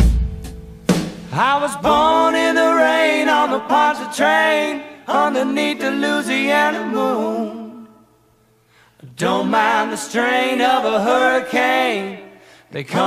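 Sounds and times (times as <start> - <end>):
a cappella voices singing in harmony: 1.3 - 13.0.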